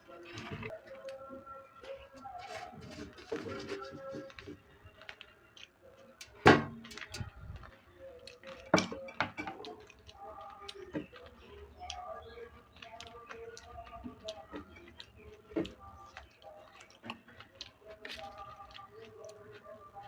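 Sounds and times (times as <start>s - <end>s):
eating from a plate: 0.0s - 20.0s.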